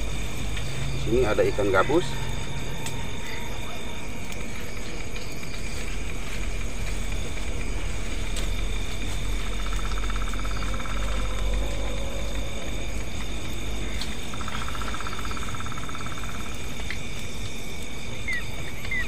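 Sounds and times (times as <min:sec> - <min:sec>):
continuous hiss: 0:00.0 - 0:19.0
crickets and insects trilling: 0:00.0 - 0:19.0
fast pulsing insect trill: 0:00.0 - 0:19.0.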